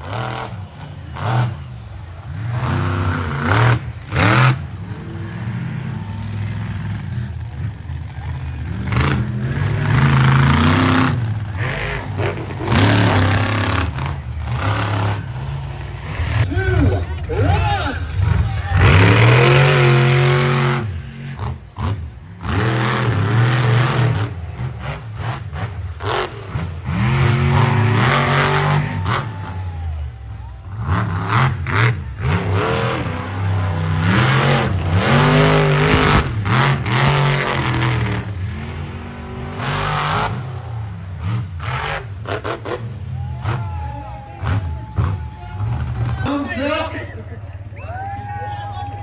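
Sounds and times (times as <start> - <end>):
truck engine revving: 0.0 - 47.7.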